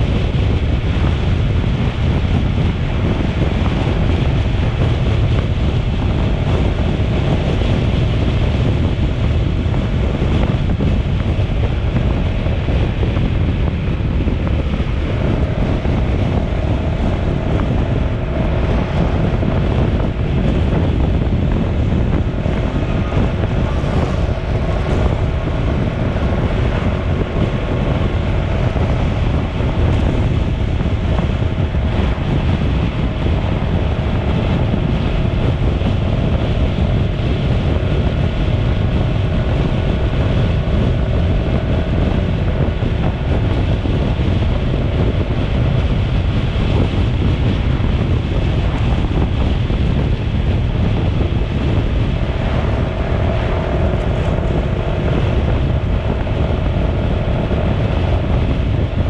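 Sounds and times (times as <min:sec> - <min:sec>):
faint hum: 0:00.0 - 0:59.0
wind buffeting microphone: 0:00.0 - 0:59.0.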